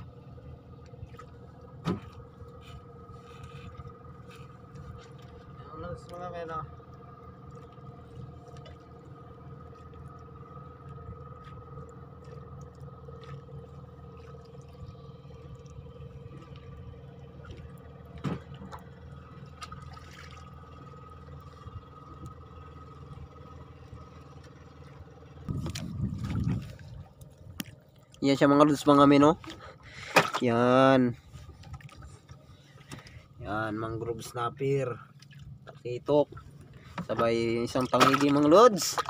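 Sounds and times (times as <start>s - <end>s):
boat engine idling: 0.0s - 39.0s.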